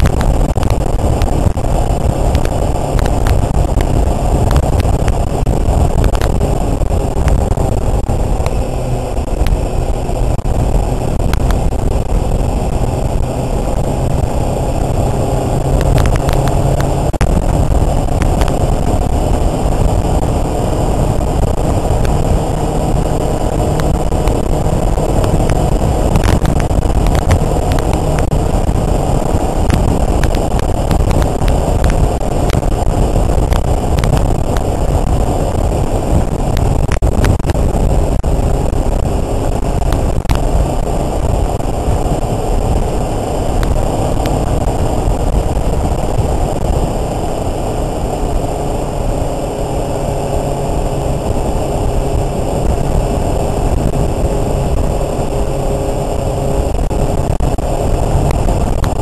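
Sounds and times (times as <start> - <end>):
motorcycle engine cruising: 0.0 - 59.0
wind rush on microphone: 0.0 - 59.0.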